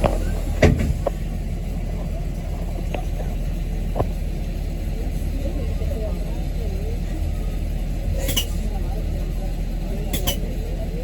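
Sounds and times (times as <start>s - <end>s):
bus engine and cooling fan drone: 0.0s - 11.0s.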